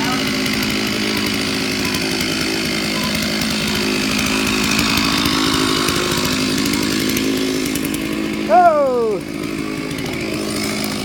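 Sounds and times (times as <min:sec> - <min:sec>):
chainsaw cutting tree trunk: 0:00.0 - 0:11.0.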